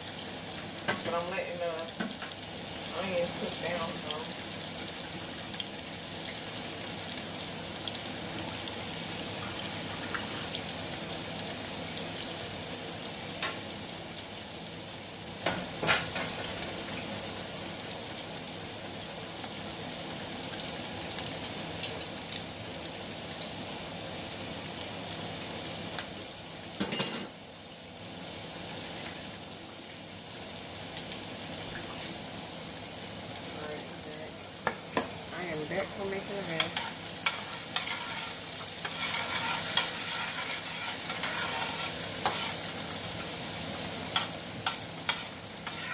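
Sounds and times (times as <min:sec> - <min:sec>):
onions sizzling in oil: 0:00.0 - 0:45.9.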